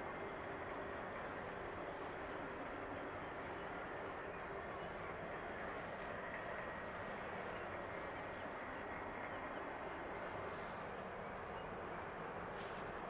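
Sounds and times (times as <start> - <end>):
harbour low rumble and hiss: 0.0 - 13.0.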